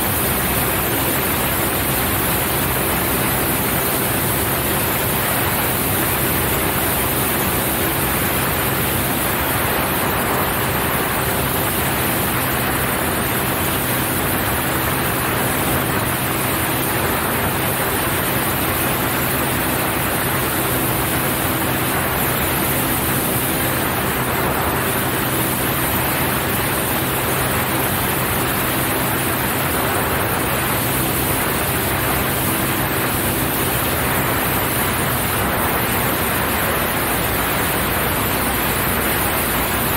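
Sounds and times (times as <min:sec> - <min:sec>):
small plane engine and propeller: 0:00.0 - 0:39.9.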